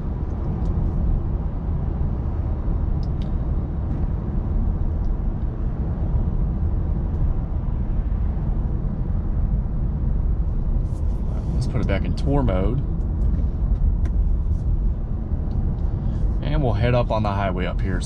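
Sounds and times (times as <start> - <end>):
car engine hum: 0.0 - 18.0
road and tyre rumble: 0.0 - 18.0.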